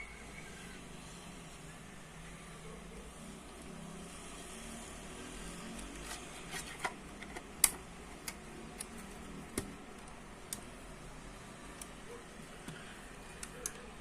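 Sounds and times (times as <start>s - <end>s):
faint steady background hum: 0.0s - 14.0s.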